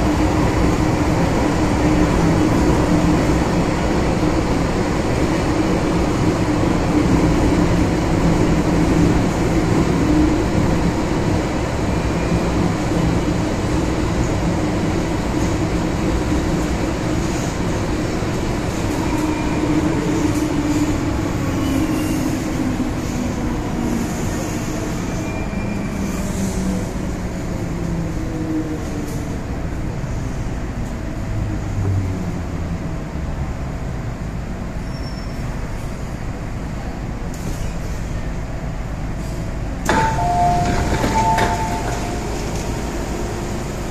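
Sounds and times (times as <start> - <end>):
metro train running: 0.0 - 43.9.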